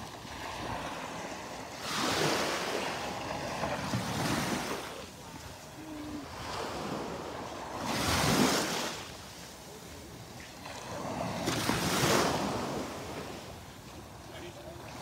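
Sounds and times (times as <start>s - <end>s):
small waves lapping on sandy beach: 0.0s - 15.0s.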